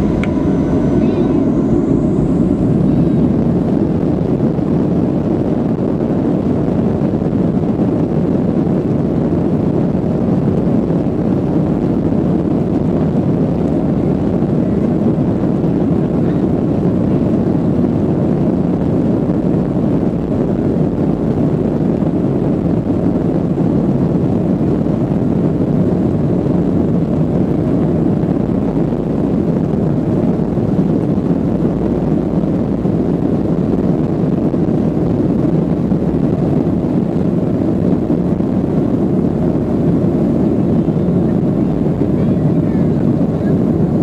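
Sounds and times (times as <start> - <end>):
jet engines droning in cabin: 0.0 - 44.0.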